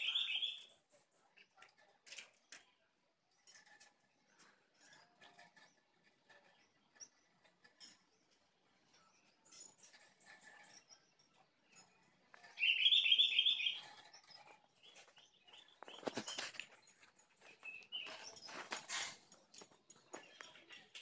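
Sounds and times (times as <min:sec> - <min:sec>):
bird chirping: 0:00.0 - 0:01.4, 0:04.4 - 0:21.0.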